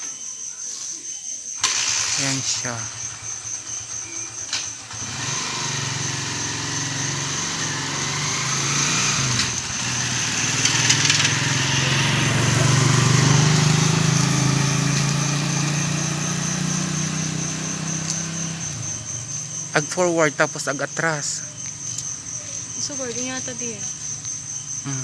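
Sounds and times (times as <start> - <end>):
crickets trilling: 0.0 - 25.0
small engine running: 1.6 - 25.0.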